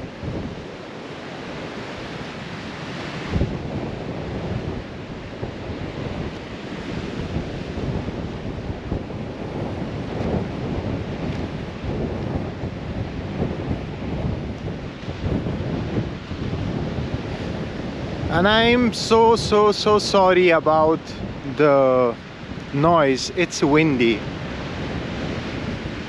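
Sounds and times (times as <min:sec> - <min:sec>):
sea waves breaking on beach: 0:00.0 - 0:26.0
wind buffeting microphone: 0:00.0 - 0:26.0.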